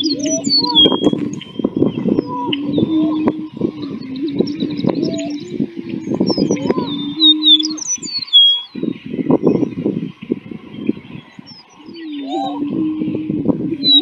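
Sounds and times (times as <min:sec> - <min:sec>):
prairie-chickens booming: 0:00.0 - 0:14.0
rough low bird calls: 0:00.0 - 0:14.0
songbird chirps and whistles: 0:00.0 - 0:14.0.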